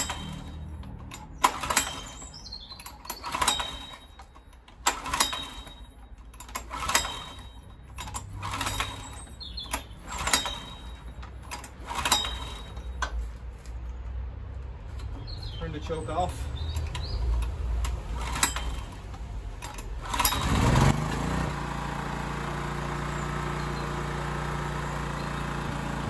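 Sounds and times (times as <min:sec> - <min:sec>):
generator recoil starter pulls: 0:00.0 - 0:14.2, 0:14.8 - 0:26.0.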